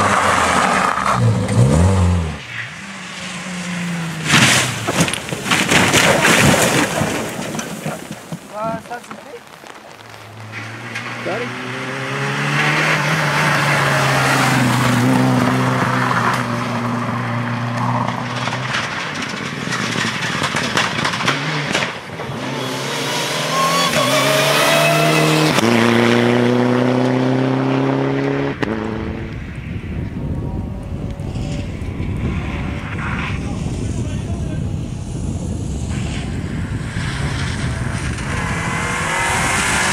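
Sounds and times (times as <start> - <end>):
rally car engine revving: 0.0 - 8.1, 10.3 - 39.9.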